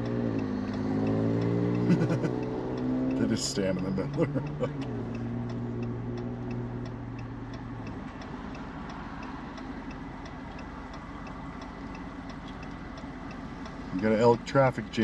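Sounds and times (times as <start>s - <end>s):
car indicator ticking: 0.0s - 15.0s
low engine hum: 0.0s - 15.0s.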